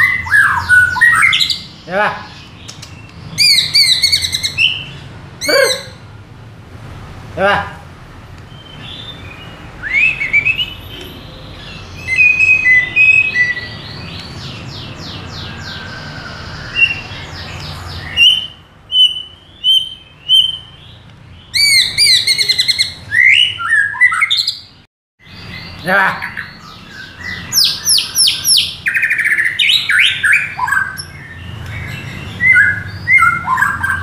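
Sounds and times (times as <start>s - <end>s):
bird singing whistled song: 0.0s - 1.7s, 2.6s - 6.0s, 8.5s - 34.0s.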